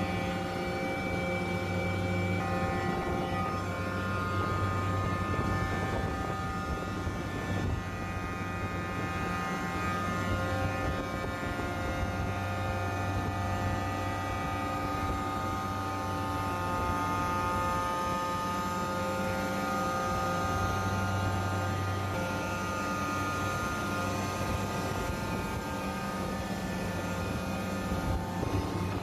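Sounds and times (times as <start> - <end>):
chiller low hum: 0.0 - 29.0
high whining tones: 0.0 - 29.0.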